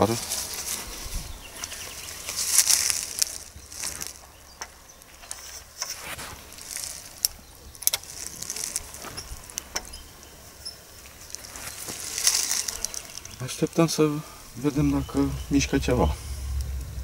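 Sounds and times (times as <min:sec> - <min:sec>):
breeze rumbling on microphone: 0:00.0 - 0:17.0.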